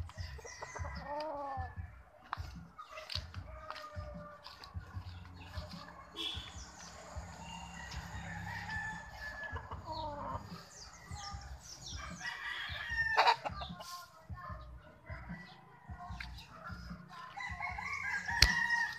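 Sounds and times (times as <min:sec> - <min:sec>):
roosters crowing: 0:00.0 - 0:13.9, 0:15.1 - 0:18.9
chickens clucking: 0:00.0 - 0:18.9.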